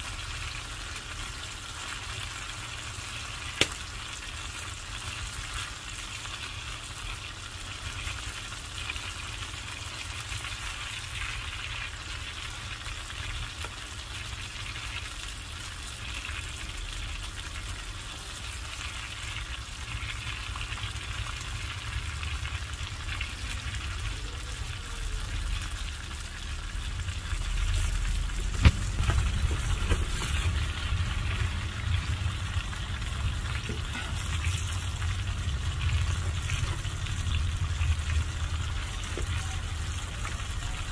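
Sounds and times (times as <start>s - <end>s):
fish deep-frying in hot oil: 0.0s - 40.9s.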